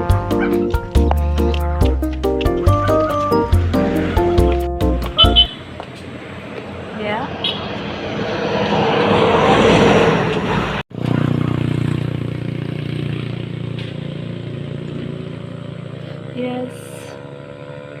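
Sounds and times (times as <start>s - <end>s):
motor vehicle engine running: 0.8s - 18.0s
vehicle passing close: 3.4s - 18.0s.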